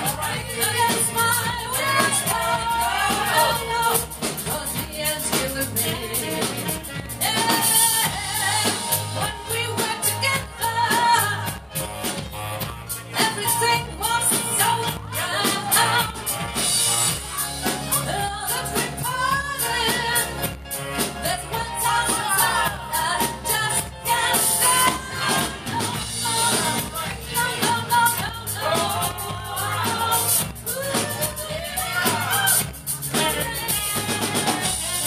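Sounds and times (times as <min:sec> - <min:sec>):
woman singing into a microphone: 0:00.0 - 0:11.8, 0:13.1 - 0:16.4, 0:17.2 - 0:35.0
drum kit: 0:00.0 - 0:35.0.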